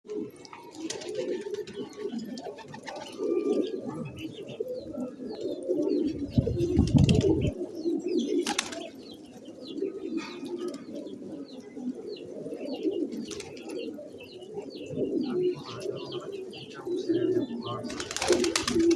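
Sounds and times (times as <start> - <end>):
pigeons cooing: 0.1 - 18.9.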